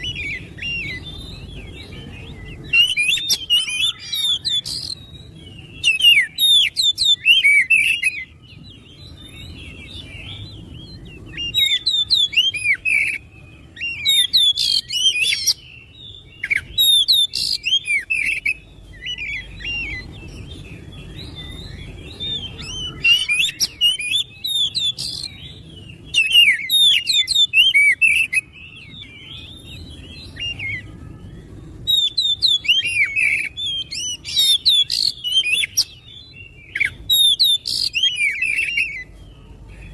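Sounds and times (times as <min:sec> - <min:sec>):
bird singing varied whistles: 0:00.0 - 0:30.9, 0:31.8 - 0:39.1.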